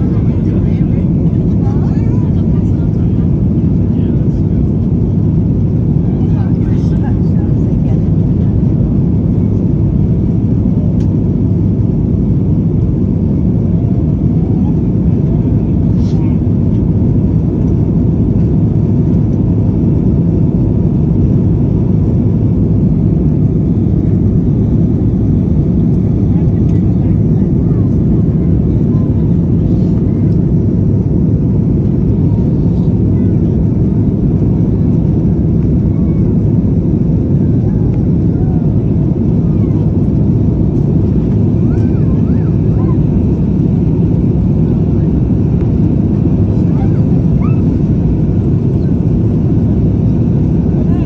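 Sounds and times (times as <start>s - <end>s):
airplane cabin roar: 0.0s - 51.0s.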